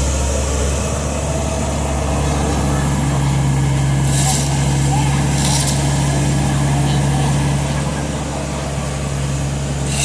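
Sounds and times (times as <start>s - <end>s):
heavy vehicle engine idling: 0.0s - 10.0s.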